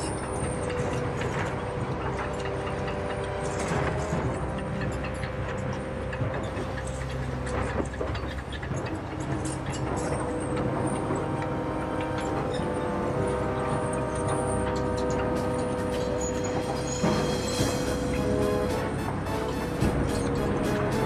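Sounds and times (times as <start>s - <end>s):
background music with sustained chords: 0.0s - 21.0s
toy excavator motor and tracks: 0.0s - 21.0s.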